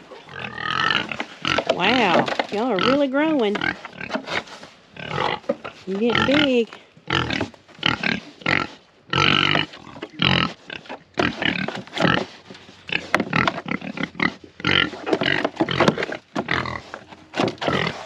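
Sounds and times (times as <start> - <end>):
pigs grunting and squealing: 0.0 - 4.2, 5.0 - 18.0.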